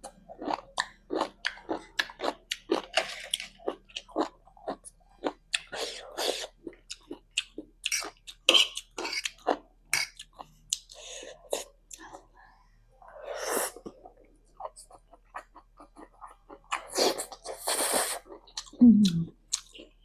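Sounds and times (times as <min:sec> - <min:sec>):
chewing noodles with mouth clicks: 0:00.0 - 0:12.2, 0:13.7 - 0:20.0.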